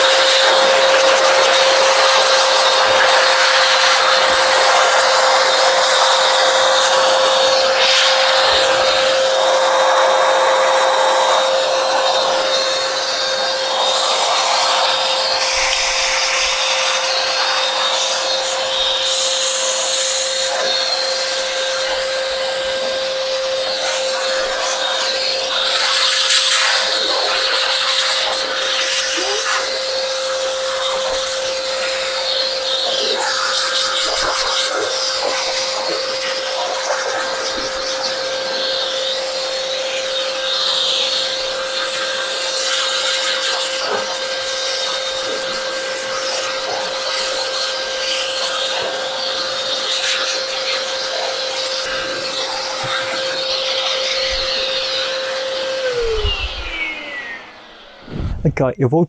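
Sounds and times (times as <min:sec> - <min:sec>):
electric blower whining: 0:00.0 - 0:58.6.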